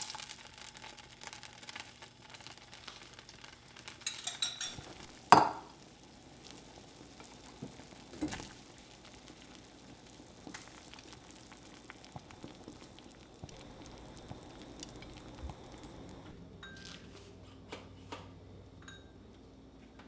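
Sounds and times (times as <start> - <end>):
soft crackling hiss: 0.0 - 16.9.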